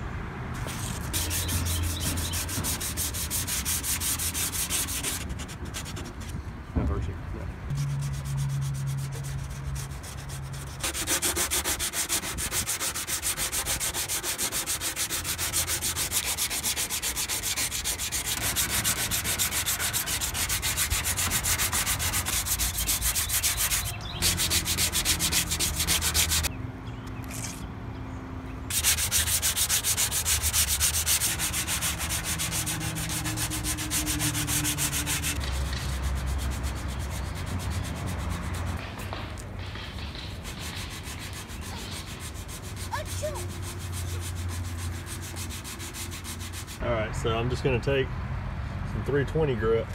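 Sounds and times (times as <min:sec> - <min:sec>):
hand sanding body filler: 0:00.6 - 0:06.3, 0:07.7 - 0:26.5, 0:28.7 - 0:38.8, 0:40.1 - 0:46.8.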